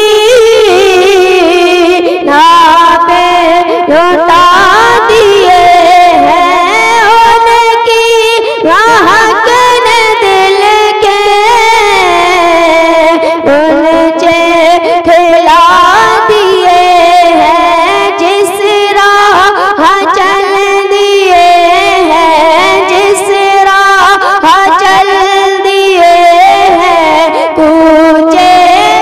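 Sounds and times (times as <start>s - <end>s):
boy singing into a microphone: 0.0s - 29.0s.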